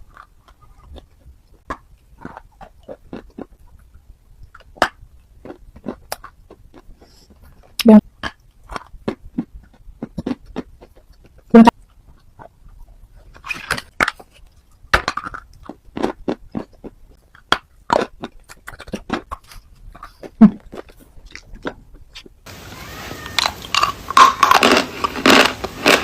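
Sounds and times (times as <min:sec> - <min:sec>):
chewing hard crunchy pieces: 0:00.0 - 0:22.4, 0:23.4 - 0:26.0.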